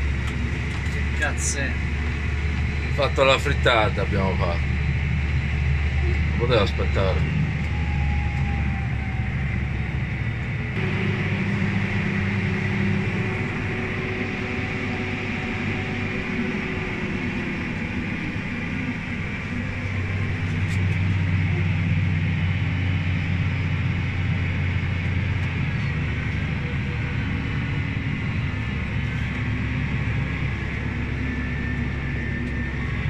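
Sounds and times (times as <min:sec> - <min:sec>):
tractor diesel engine drone: 0:00.0 - 0:33.0.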